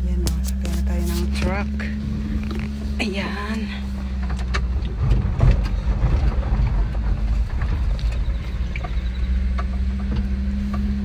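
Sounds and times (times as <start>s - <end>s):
truck engine rumbling: 0.0s - 11.0s
cab rattling and knocking: 0.3s - 11.0s.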